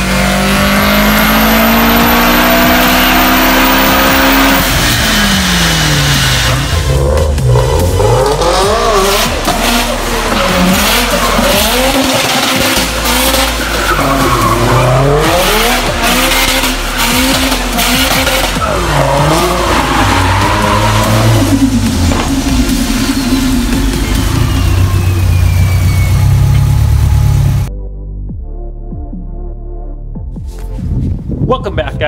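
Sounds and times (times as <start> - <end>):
car engine revving: 0.0 - 27.7
tyres skidding: 0.0 - 27.7.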